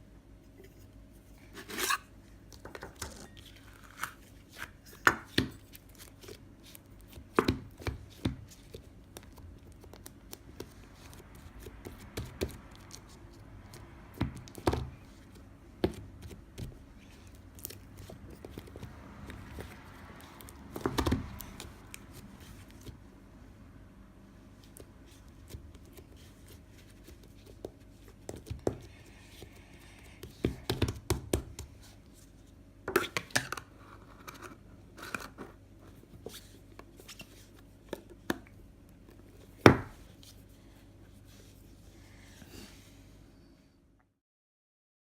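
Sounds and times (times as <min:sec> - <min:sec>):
faint steady hum: 0:00.0 - 0:44.2.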